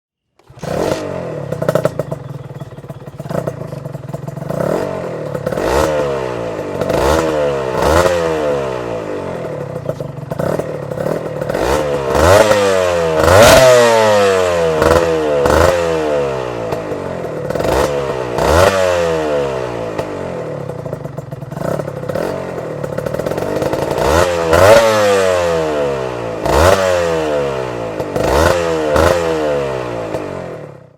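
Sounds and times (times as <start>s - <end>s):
two-stroke engine revving: 0.4s - 30.9s.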